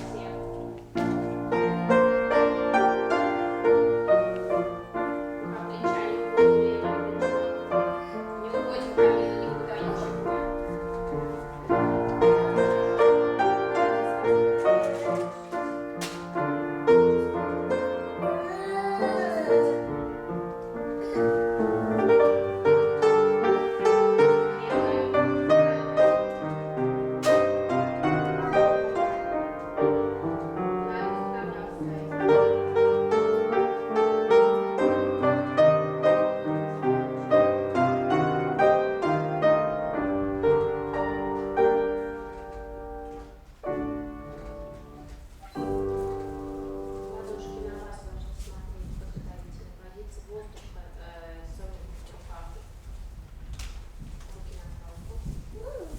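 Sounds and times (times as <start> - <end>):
classical piano music: 0.0 - 55.9.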